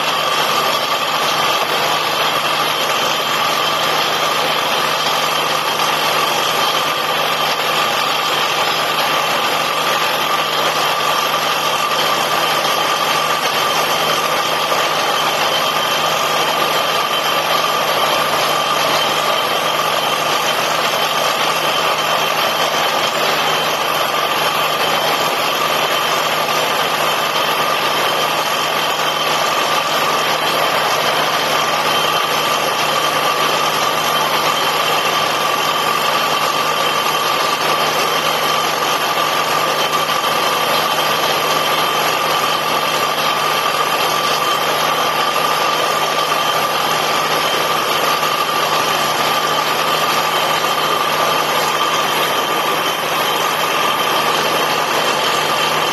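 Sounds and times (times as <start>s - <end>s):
drilling rig running: 0.0s - 55.9s.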